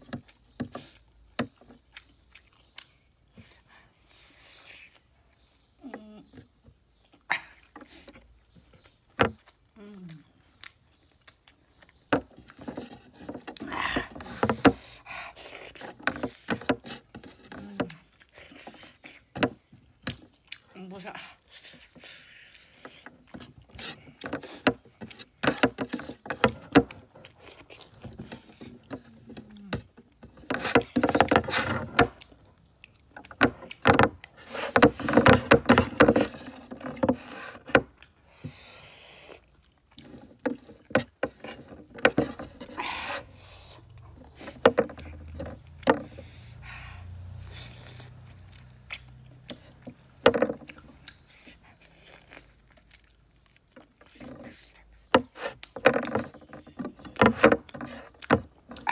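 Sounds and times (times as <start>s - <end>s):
noisy wet chewing: 0.0s - 58.9s.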